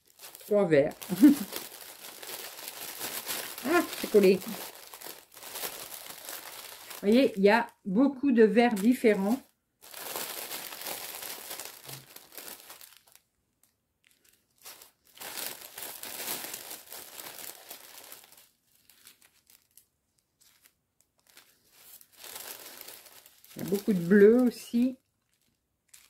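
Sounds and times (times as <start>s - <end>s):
plastic bags crinkling: 0.0s - 7.8s, 8.6s - 26.0s.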